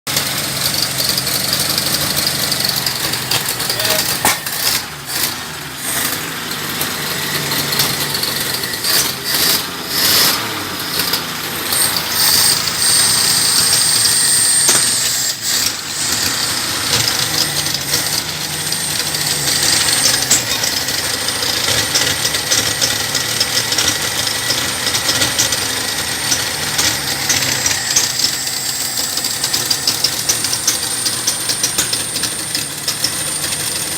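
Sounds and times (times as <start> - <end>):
inline-six engine running: 0.1 - 33.9.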